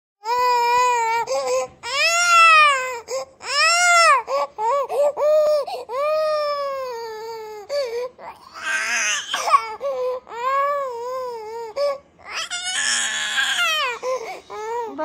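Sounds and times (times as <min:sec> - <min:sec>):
baby crying: 0:00.2 - 0:15.0.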